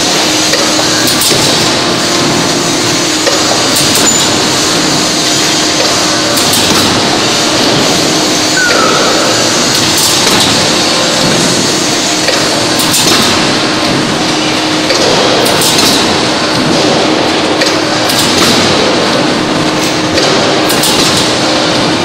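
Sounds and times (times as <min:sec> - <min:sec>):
forging press machine noise: 0:00.0 - 0:22.0.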